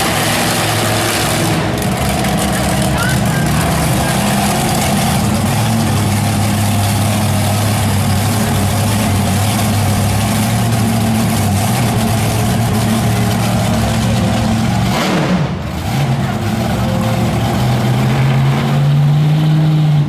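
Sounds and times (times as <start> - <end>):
monster truck engines idling: 0.0 - 20.0.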